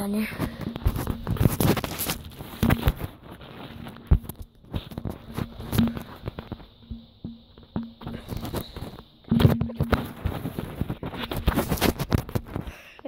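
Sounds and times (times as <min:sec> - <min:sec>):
grass rustling on microphone: 0:00.0 - 0:12.9.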